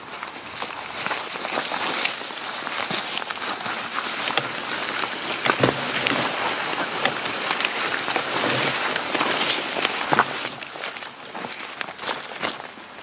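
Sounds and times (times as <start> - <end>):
footsteps through dry leaves: 0.0 - 13.0
suit rustling against undergrowth: 0.0 - 13.0.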